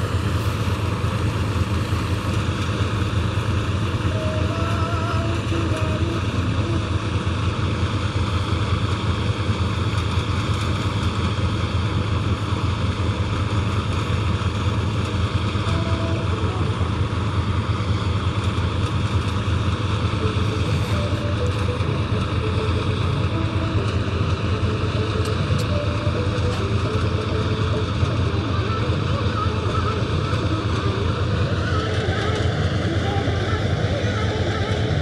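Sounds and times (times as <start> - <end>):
combine harvester running: 0.0 - 35.0
grain auger working: 0.0 - 35.0
tractor engine: 0.0 - 35.0.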